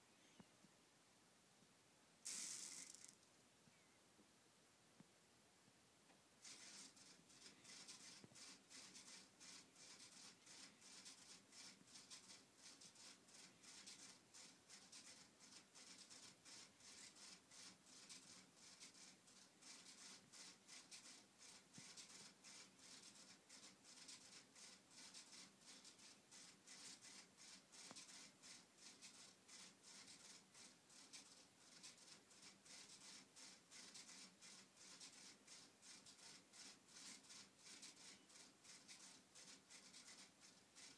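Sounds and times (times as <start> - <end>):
stepper motors clicking rapidly: 2.3 - 3.2, 6.4 - 40.9.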